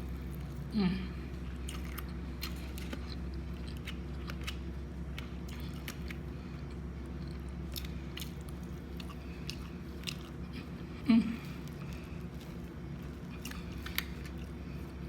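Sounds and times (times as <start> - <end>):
chewing and biting food: 0.0 - 15.0
steady low hum: 0.0 - 15.0.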